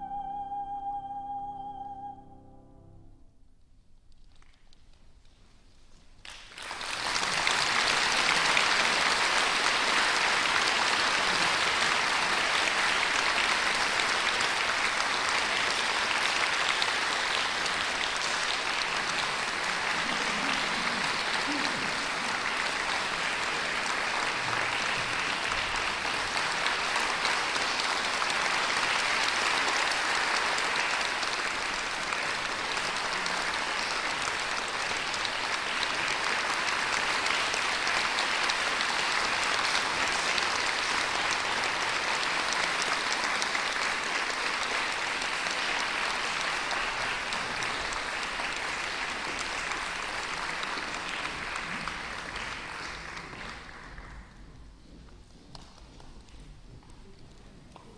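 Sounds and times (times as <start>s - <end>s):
audience applauding: 6.2s - 54.5s.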